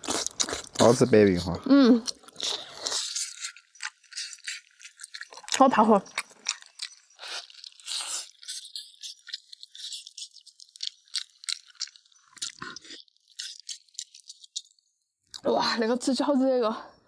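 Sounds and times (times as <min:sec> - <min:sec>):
wet chewing and sucking: 0:00.0 - 0:15.5.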